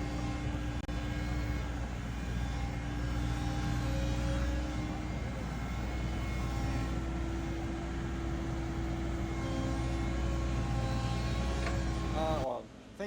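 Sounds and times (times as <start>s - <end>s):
excavator diesel engine droning: 0.0s - 12.5s.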